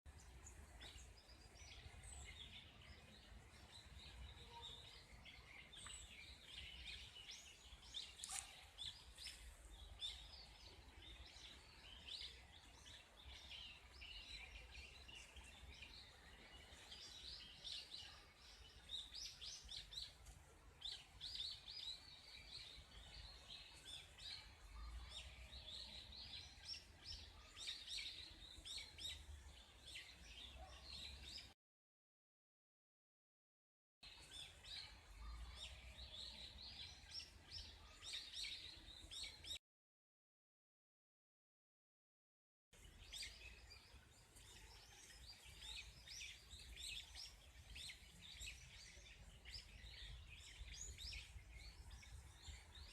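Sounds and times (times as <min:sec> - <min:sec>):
small birds chirping: 0:00.1 - 0:31.6, 0:34.0 - 0:39.6, 0:42.8 - 0:52.9.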